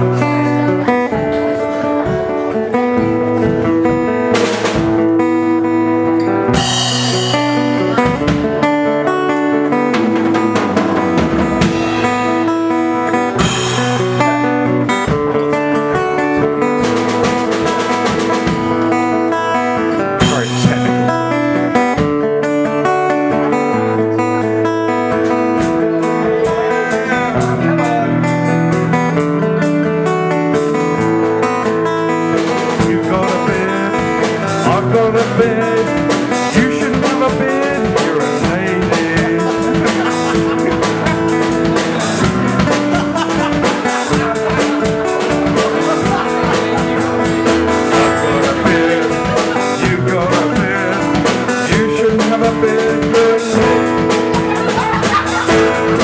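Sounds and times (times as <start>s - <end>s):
bass line: 0.0s - 56.0s
drums: 0.0s - 56.0s
electric guitar: 0.0s - 56.0s.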